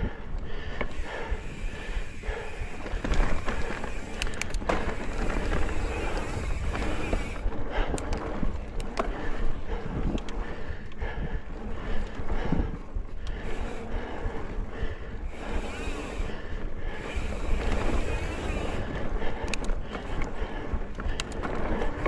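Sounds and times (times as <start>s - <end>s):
bike clicking and rattling: 0.0s - 22.0s
bike tyre rumble on dirt: 0.0s - 22.0s
wind buffeting: 0.0s - 22.0s.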